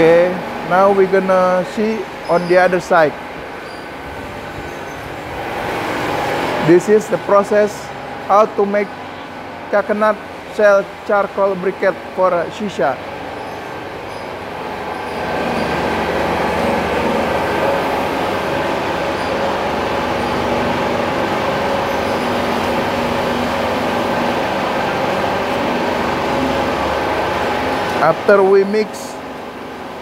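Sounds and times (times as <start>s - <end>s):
extruder machine humming: 0.0s - 30.0s.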